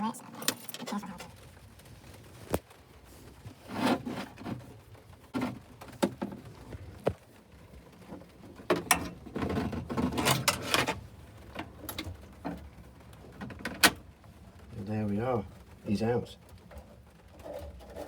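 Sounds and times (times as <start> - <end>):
scraping and rustling: 0.0 - 18.0.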